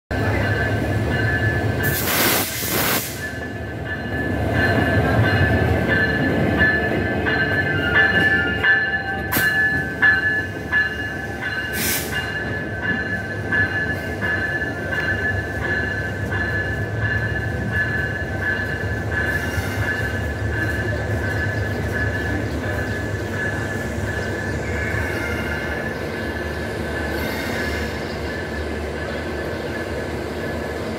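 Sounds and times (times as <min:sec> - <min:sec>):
locomotive bell ringing: 0:00.1 - 0:02.1, 0:03.1 - 0:30.9.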